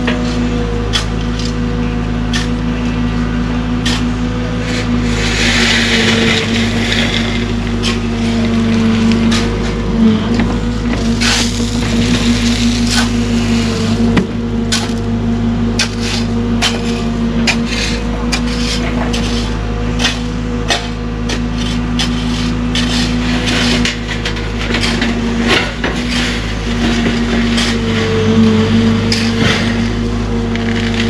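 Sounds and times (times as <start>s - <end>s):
excavator engine and hydraulics hum: 0.0s - 31.0s
bucket scraping ground: 3.8s - 15.0s, 15.8s - 31.0s.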